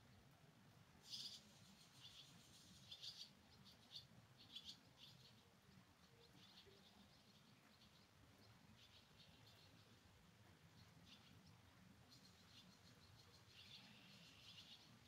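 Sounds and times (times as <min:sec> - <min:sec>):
bird chirps: 0:01.0 - 0:10.0, 0:10.7 - 0:15.0.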